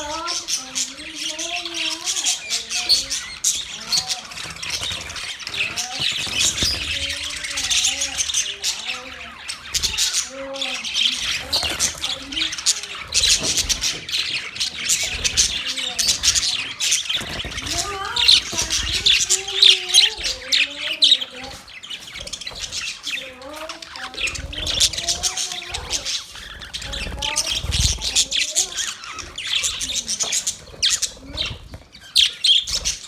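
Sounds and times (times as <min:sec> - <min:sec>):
budgerigars chattering and warbling: 0:00.0 - 0:33.0.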